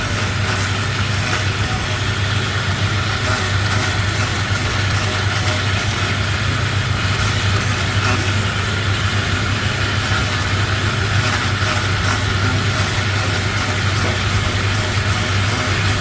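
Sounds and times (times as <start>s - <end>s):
woodworking machinery humming: 0.0s - 16.0s.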